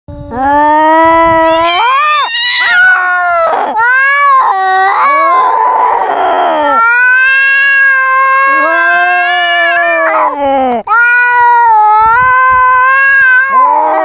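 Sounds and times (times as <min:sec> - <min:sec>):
cat yowling: 0:00.4 - 0:14.0.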